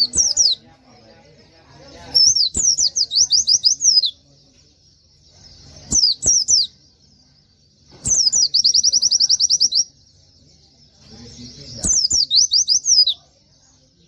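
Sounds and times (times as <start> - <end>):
bird rapid high chirping: 0.0 - 14.0.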